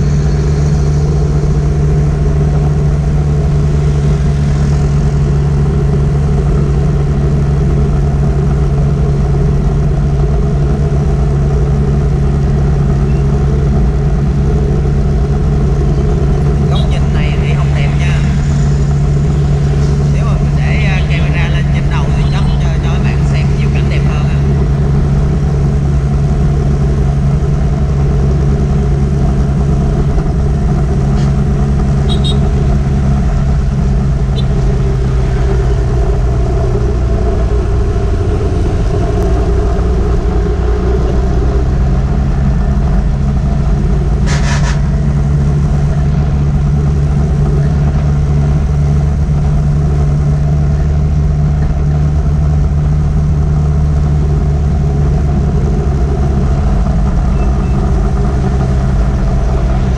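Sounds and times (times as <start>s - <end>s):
motorbike engine cruising: 0.0s - 59.9s
road and riding noise: 0.0s - 59.9s.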